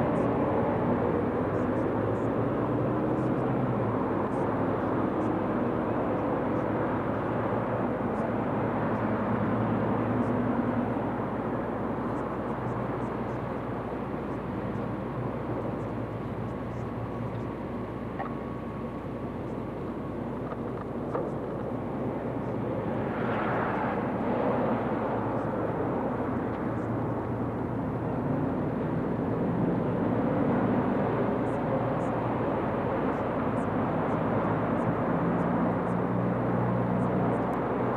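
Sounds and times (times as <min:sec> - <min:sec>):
passing cars: 0:00.0 - 0:37.9.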